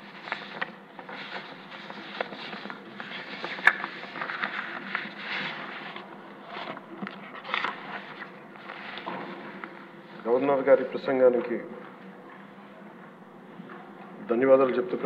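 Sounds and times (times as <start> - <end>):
low rustling room noise: 0.0 - 15.0.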